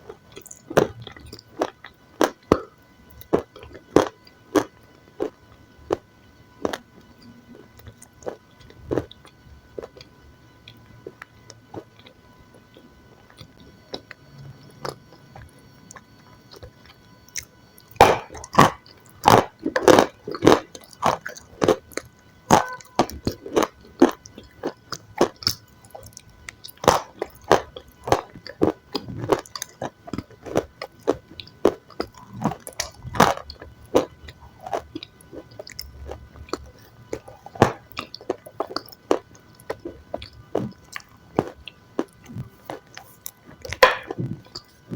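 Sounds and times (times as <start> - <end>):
mouth and chewing sounds: 0.1 - 6.0, 6.6 - 44.9
crunchy bites: 0.3 - 6.0, 6.6 - 10.1, 10.7 - 44.9.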